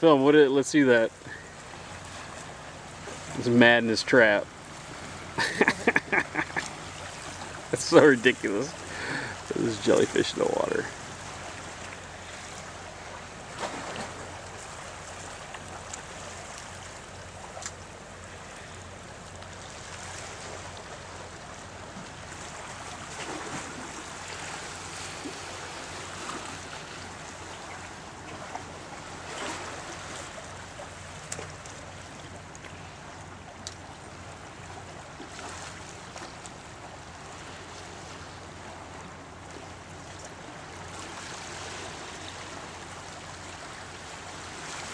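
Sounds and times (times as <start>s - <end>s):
sea water washing against rocks: 0.8s - 38.9s, 40.8s - 44.9s.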